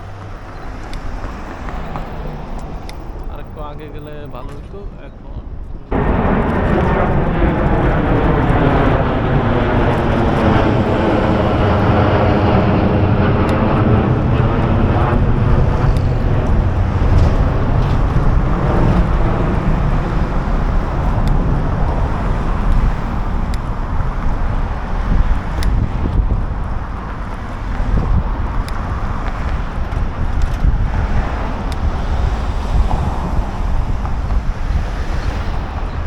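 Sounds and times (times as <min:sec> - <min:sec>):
jet airliner passing overhead: 0:00.0 - 0:36.0.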